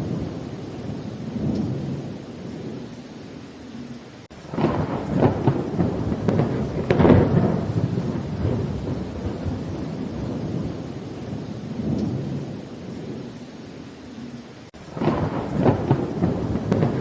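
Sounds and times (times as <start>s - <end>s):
crackling thunderclap: 0.0s - 3.0s, 4.3s - 17.0s
thunder rumbling low: 0.0s - 3.0s, 4.3s - 13.4s, 14.2s - 17.0s
rain: 0.0s - 17.0s.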